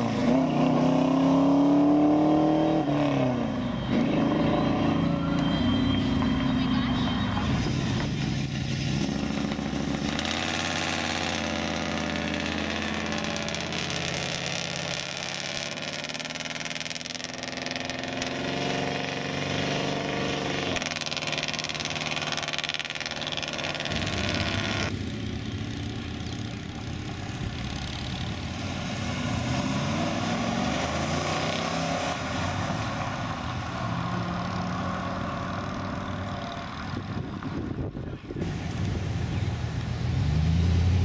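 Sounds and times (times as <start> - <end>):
cars driving past revving: 0.0 - 37.7, 38.4 - 41.0.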